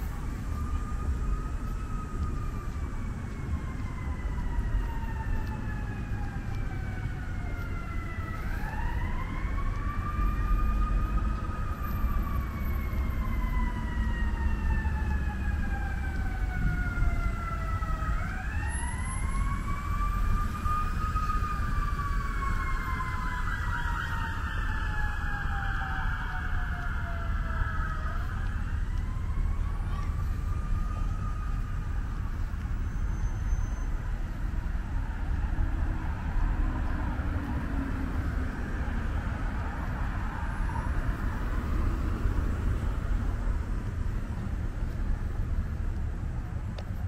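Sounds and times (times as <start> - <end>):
emergency vehicle siren wailing: 0.0 - 47.0
low rumble of road traffic: 0.0 - 47.0.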